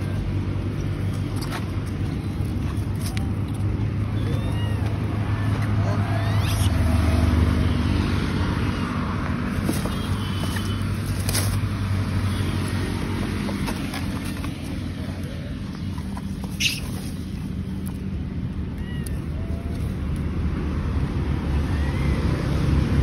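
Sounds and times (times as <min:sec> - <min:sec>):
vehicle engine running: 0:00.0 - 0:18.6.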